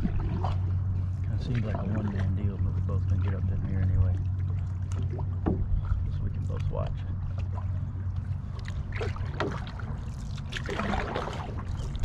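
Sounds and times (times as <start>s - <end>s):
low rumble: 0.0s - 12.0s
water swishing and splashing: 0.0s - 12.0s.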